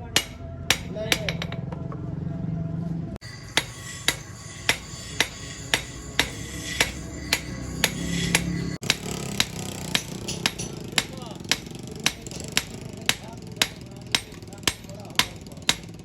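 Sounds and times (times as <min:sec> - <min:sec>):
hammer blows on steel anvil: 0:00.0 - 0:01.7, 0:03.2 - 0:16.0.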